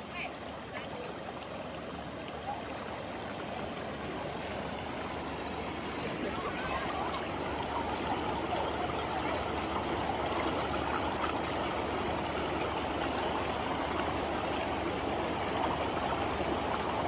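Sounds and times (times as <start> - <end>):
fast-flowing stream rushing: 0.0 - 17.0.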